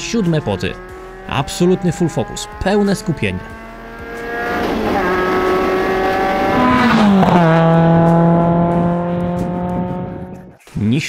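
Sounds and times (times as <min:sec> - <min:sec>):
race car engine running hard: 0:00.0 - 0:10.6.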